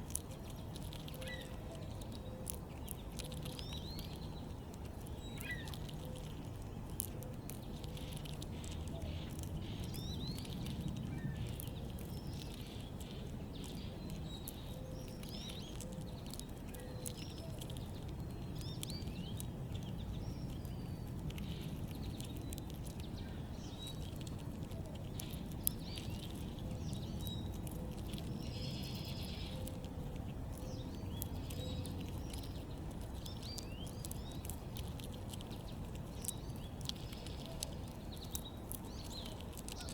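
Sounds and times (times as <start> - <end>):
low outdoor background rumble: 0.0 - 39.9
small birds chirping: 0.0 - 39.9.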